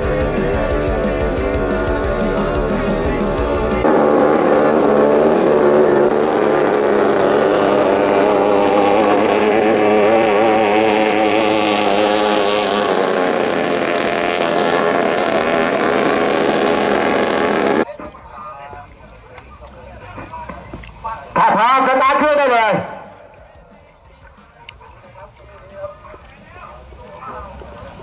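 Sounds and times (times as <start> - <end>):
speedboat engines at full throttle: 0.0 - 23.4, 24.6 - 28.0.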